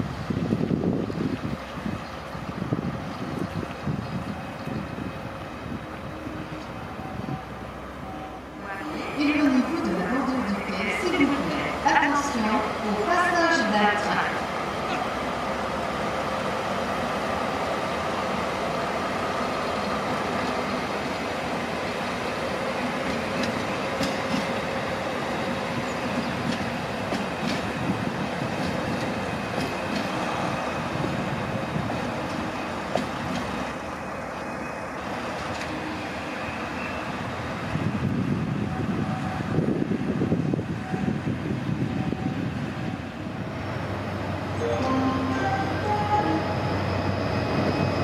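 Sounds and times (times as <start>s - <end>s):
diesel locomotive engine: 0.0s - 48.0s.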